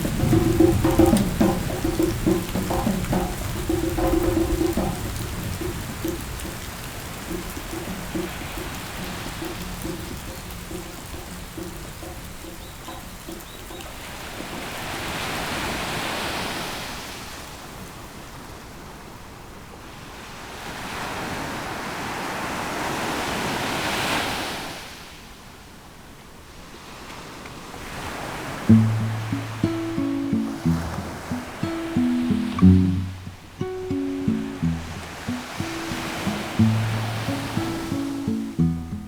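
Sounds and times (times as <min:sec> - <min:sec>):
ocean waves surging: 0:00.0 - 0:25.1, 0:26.7 - 0:39.0.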